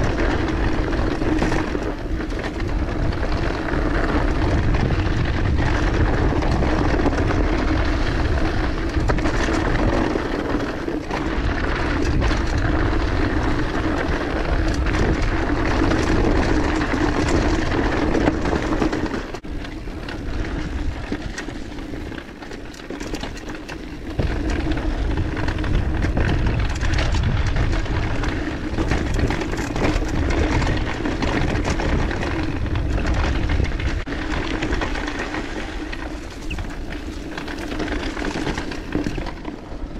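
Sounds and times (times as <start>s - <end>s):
bike knocking and rattling: 0.0s - 39.9s
bike tyres rumbling on dirt: 0.0s - 39.9s
wind noise: 0.0s - 39.9s.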